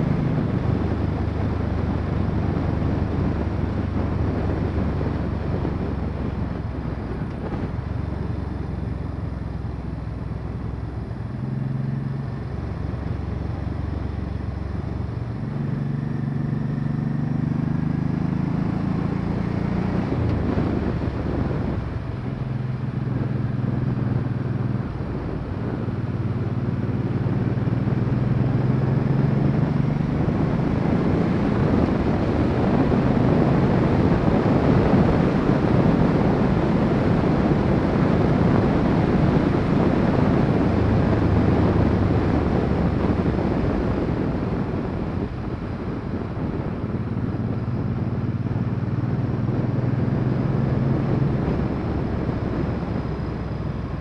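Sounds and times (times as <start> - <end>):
motorcycle engine running: 0.0 - 54.0
wind rushing over microphone: 0.0 - 54.0.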